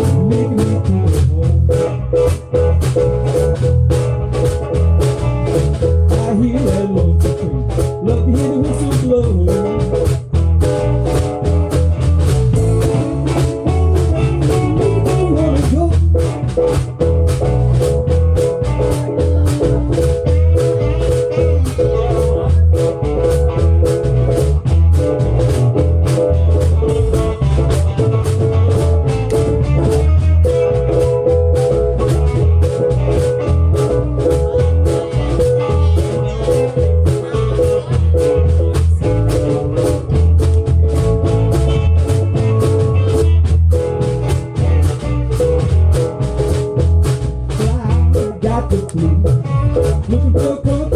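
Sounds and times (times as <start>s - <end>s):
live band playing: 0.0s - 50.9s.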